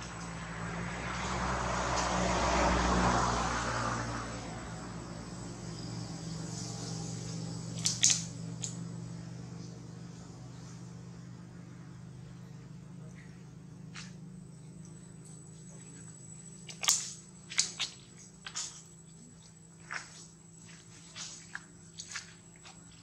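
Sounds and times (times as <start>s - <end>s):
vehicle engine passing: 0.0s - 23.0s
steady low hum: 4.3s - 23.0s.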